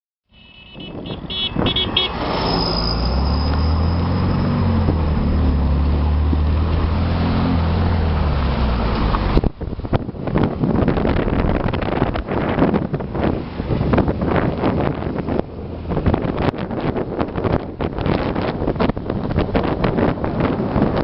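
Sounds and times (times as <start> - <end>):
vehicle engine droning: 1.2 - 21.0.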